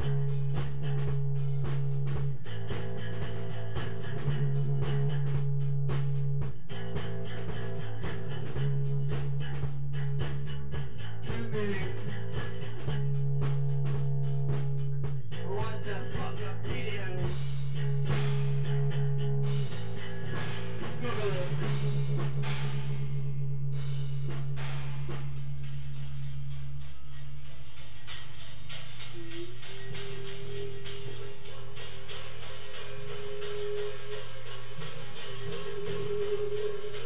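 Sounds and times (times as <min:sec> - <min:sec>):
psychedelic rock jam: 0:00.0 - 0:37.0.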